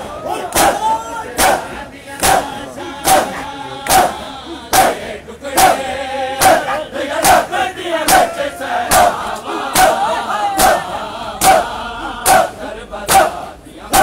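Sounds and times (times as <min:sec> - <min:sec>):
crowd slapping chests: 0:00.0 - 0:14.0
men chanting: 0:00.0 - 0:14.0.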